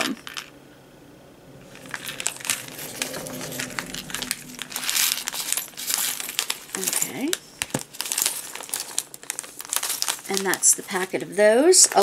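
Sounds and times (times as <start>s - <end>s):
plastic packet crinkling: 1.7s - 12.0s.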